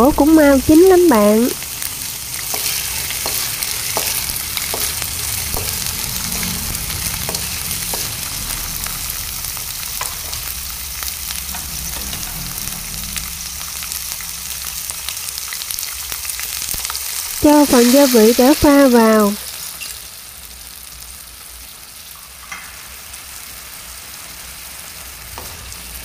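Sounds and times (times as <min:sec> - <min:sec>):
beans sizzling in hot oil: 0:00.2 - 0:12.3, 0:13.4 - 0:26.0.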